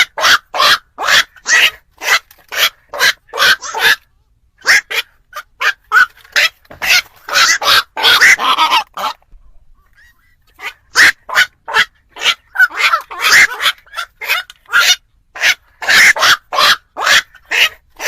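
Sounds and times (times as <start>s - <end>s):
heron harsh croaks: 0.0s - 4.0s, 4.6s - 9.2s, 10.5s - 18.0s.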